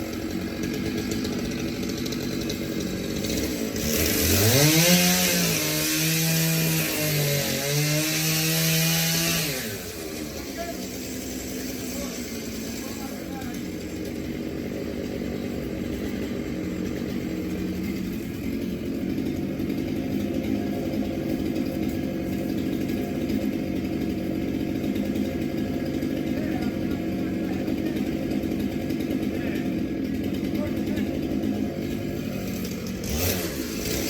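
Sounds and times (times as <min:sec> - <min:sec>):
chainsaw engine running: 0:00.0 - 0:34.0.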